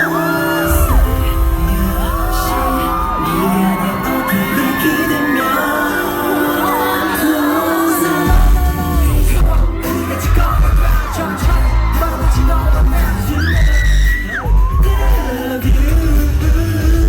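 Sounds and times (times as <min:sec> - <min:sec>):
person singing: 0:00.0 - 0:17.0
pop concert music: 0:00.0 - 0:17.0.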